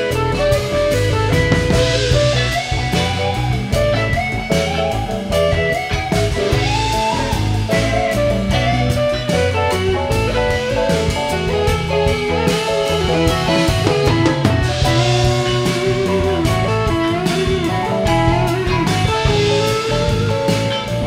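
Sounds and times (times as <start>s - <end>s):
electric guitar lead line: 0.0s - 21.0s
rock band playing: 0.0s - 21.0s.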